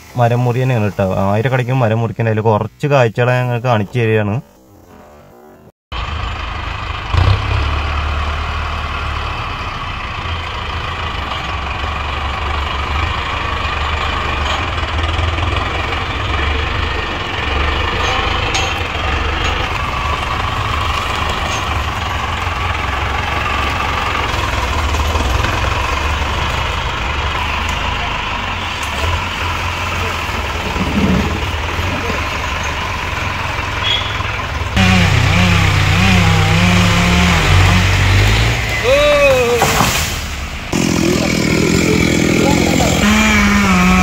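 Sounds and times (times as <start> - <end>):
tractor diesel engine running: 5.9 - 44.0.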